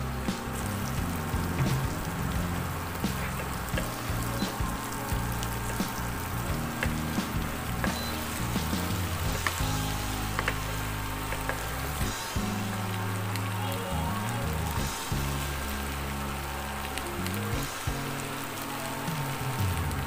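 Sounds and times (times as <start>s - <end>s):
background music: 0.0s - 20.0s
food sizzling in oil: 0.0s - 20.0s.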